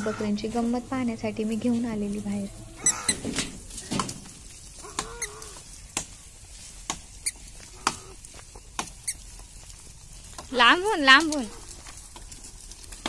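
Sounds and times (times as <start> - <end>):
footsteps crunching on leaves and gravel: 0.0 - 13.0.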